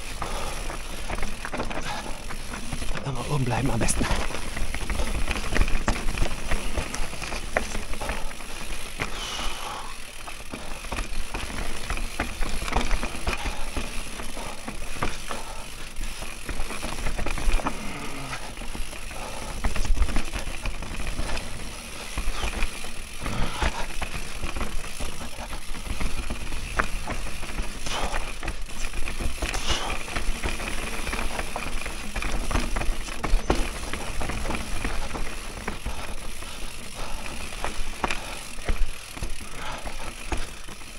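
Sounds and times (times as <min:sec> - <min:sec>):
bike clicking and rattling: 0:00.0 - 0:40.9
bike tyres rolling over dirt: 0:00.0 - 0:40.9.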